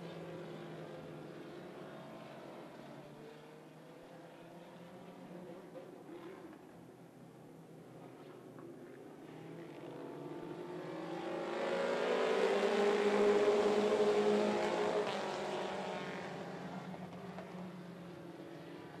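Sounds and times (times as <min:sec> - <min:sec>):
race car engines passing by: 0:00.0 - 0:19.0.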